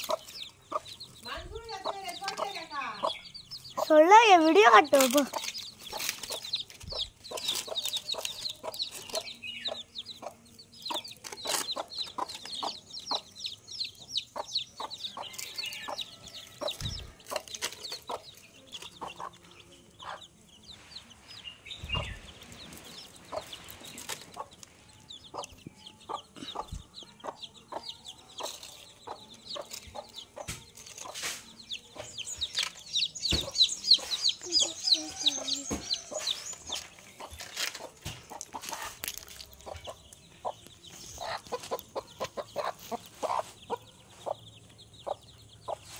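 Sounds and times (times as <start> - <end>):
hen clucking: 0.0 - 21.1, 21.7 - 45.9
chicks peeping: 0.0 - 45.9.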